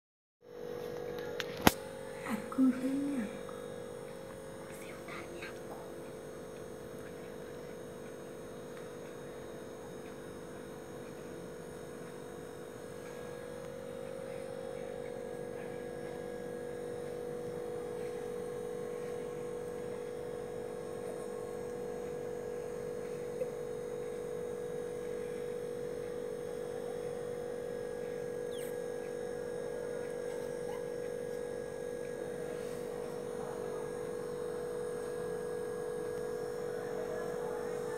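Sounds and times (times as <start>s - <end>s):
steady hum: 0.5s - 37.9s.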